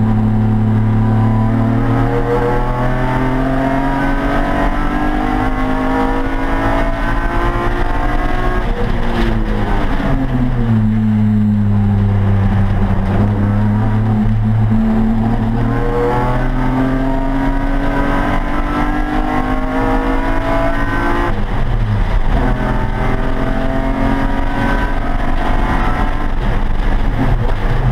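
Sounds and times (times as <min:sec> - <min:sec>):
race car engine revving: 0:00.0 - 0:27.9.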